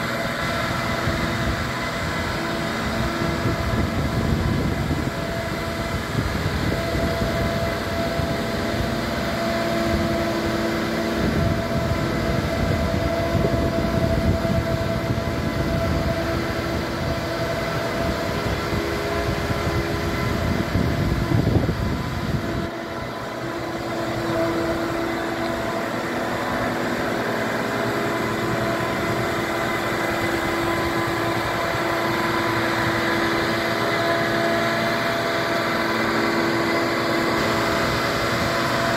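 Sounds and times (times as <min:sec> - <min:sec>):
engine hum: 0:00.0 - 0:38.9
hydraulic whine: 0:00.0 - 0:38.9
wind buffeting microphone: 0:00.0 - 0:38.9.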